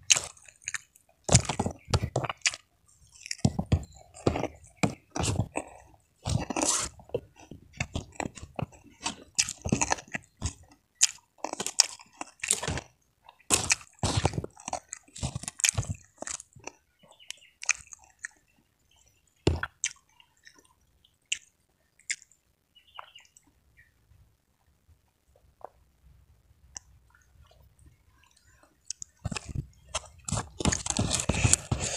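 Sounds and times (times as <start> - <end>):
chewing and crunching food: 0.0 - 23.9, 24.6 - 25.9, 26.6 - 31.9.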